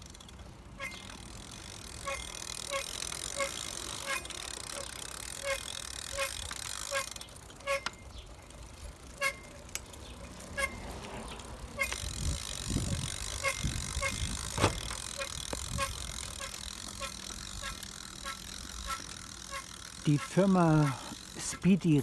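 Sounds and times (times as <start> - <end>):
wheel squeaking: 0.0 - 22.0.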